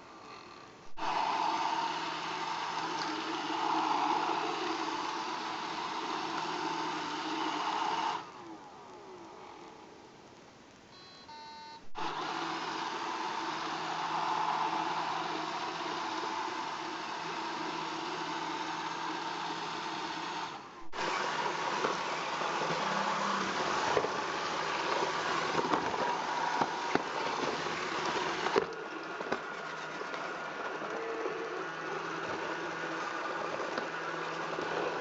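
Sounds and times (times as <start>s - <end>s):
robot vacuum motor whine: 0.2s - 10.0s, 12.0s - 35.0s.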